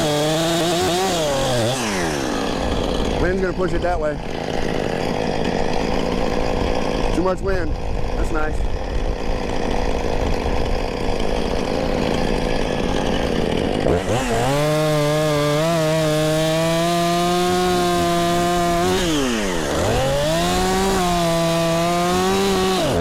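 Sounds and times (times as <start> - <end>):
chainsaw revving: 0.0 - 23.0.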